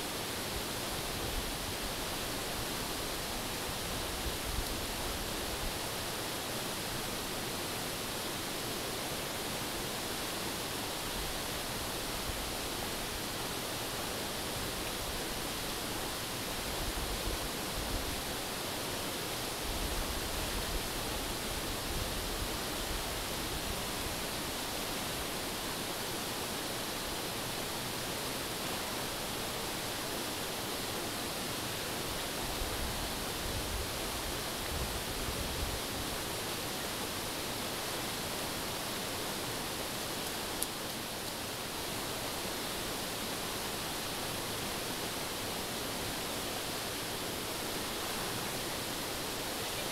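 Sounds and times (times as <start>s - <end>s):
river rushing over rocks: 0.0s - 49.9s.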